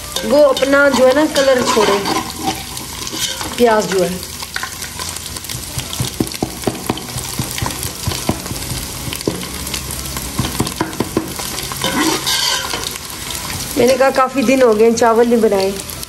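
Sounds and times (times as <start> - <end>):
metal spoon scraping a pot: 0.0 - 9.8, 10.4 - 13.7
onions sizzling in hot oil: 0.0 - 16.0.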